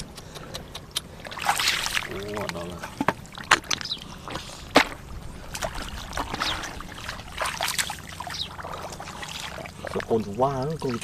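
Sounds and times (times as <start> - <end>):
sharp water slaps: 0.0 - 11.0
shallow water splashing: 1.0 - 11.0.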